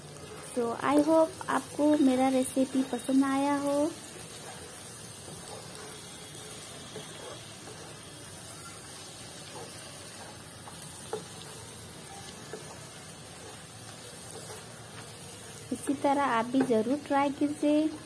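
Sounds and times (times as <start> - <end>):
vegetables sizzling softly: 0.0 - 18.0.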